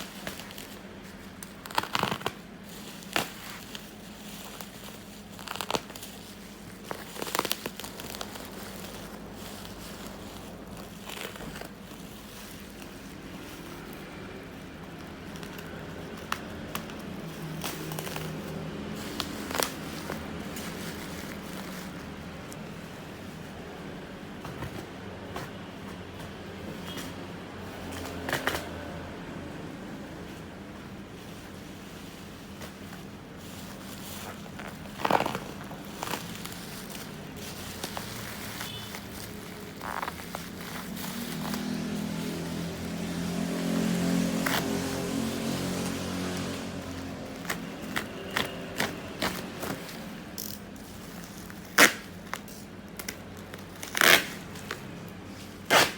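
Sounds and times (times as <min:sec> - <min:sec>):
packaging rustling: 0:00.0 - 0:26.6, 0:30.2 - 0:55.9
vehicle engine humming: 0:02.4 - 0:55.7.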